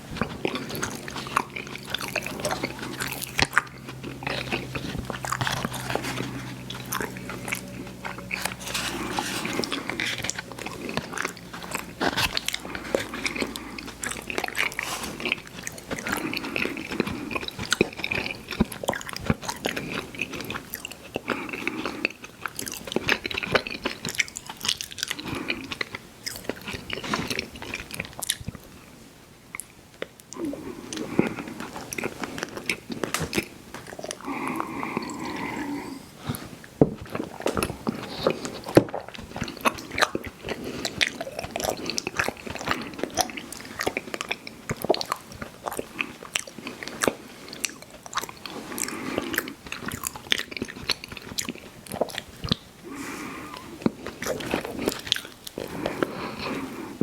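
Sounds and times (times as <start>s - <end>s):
chewing chewy candy: 0.0s - 28.9s, 29.5s - 57.0s.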